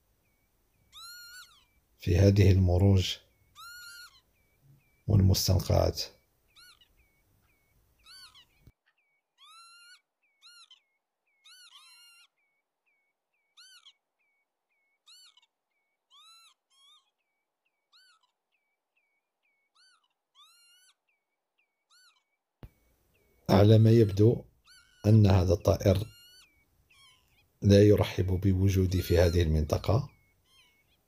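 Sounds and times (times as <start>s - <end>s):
lapwing alarm calls: 0.0s - 31.0s.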